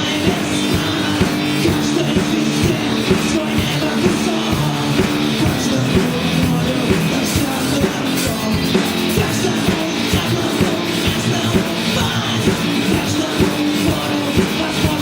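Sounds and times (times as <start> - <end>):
bass guitar: 0.0 - 15.0
electric guitars: 0.0 - 15.0
steady drum beat: 0.0 - 15.0.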